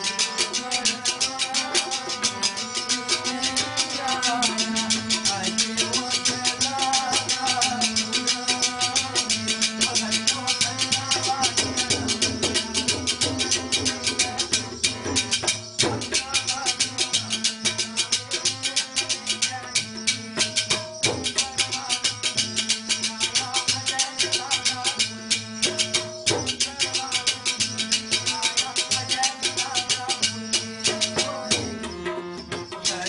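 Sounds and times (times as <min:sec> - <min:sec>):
harmonium melody: 0:00.0 - 0:33.0
tabla drumming: 0:00.0 - 0:33.0.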